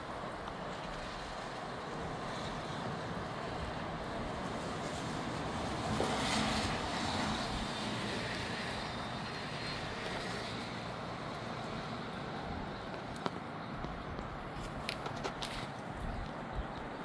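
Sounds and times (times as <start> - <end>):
wind buffeting microphone: 0.0 - 17.0
wind rushing through trees: 0.0 - 17.0.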